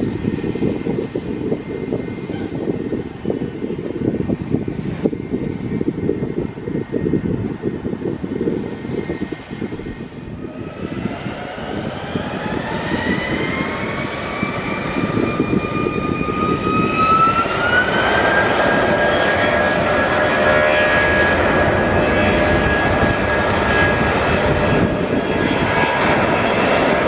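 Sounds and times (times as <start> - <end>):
aircraft engines spooling up: 0.0 - 27.0.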